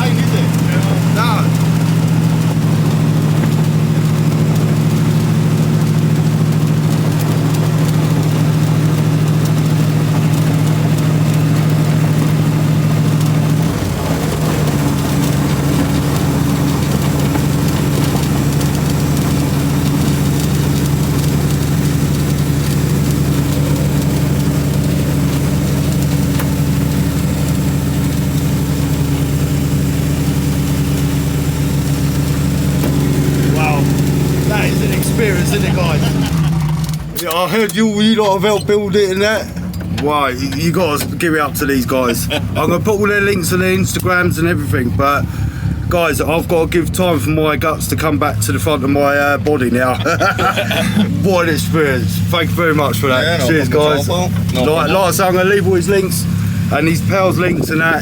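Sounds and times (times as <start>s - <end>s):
van engines idling: 0.0s - 58.0s.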